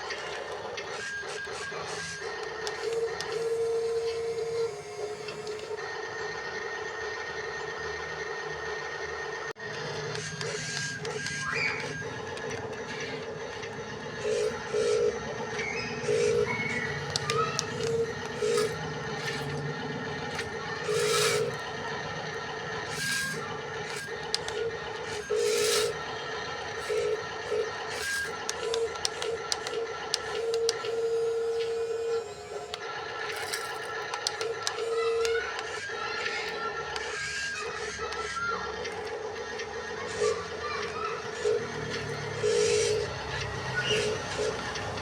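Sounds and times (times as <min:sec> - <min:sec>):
electric motors whining: 0:00.0 - 0:45.0.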